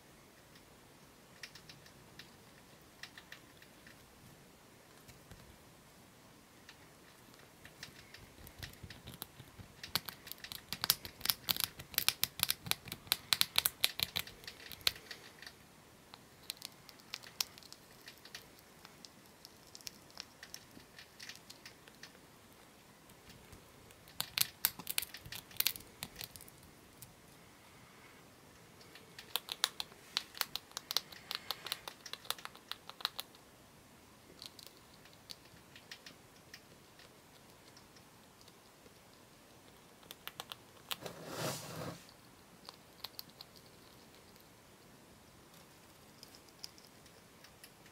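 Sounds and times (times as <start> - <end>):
small rodent gnawing a treat: 0.4 - 5.8, 6.4 - 27.4, 28.5 - 41.2, 42.0 - 47.9.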